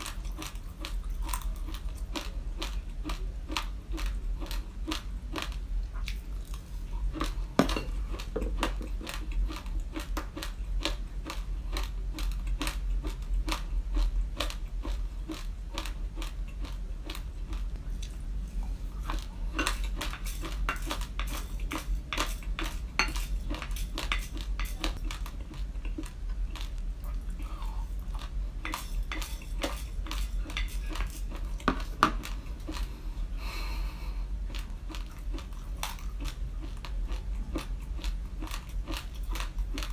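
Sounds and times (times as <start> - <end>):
crunchy chewing of rice grains: 0.0 - 39.9
steady low hum: 0.0 - 39.9.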